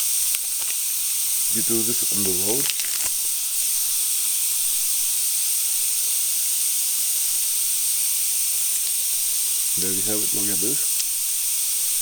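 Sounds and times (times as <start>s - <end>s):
air hissing from punctured tire: 0.0s - 12.0s.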